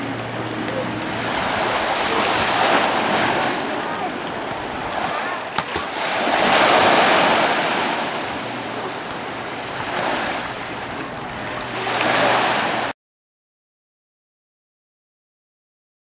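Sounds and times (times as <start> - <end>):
small waves washing on shore: 0.0 - 12.9.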